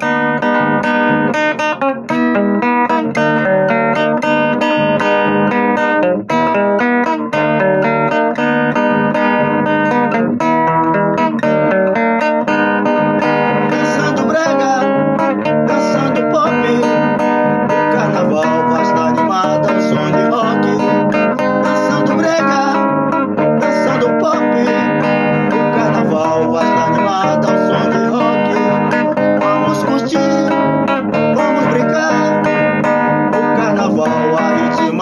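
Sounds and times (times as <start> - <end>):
rock song with guitars: 0.0 - 35.0.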